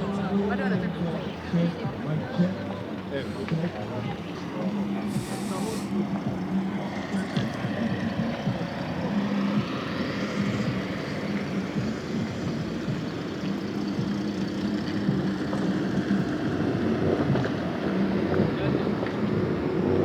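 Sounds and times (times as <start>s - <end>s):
noisy background: 0.0s - 20.0s
vehicle engine running: 0.0s - 20.0s.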